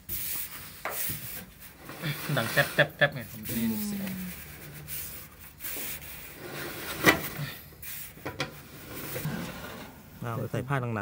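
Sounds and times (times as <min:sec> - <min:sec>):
dryer drum rubbing and scraping: 0:01.2 - 0:10.6.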